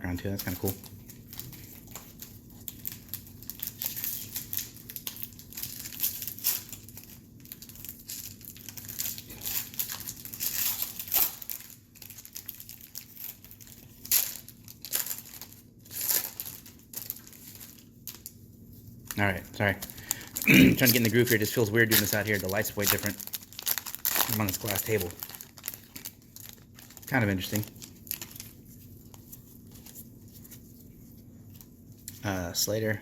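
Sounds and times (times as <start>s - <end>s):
cards rustling: 0.2s - 18.3s, 18.9s - 32.4s
wrappers crinkling and tearing: 0.2s - 33.0s.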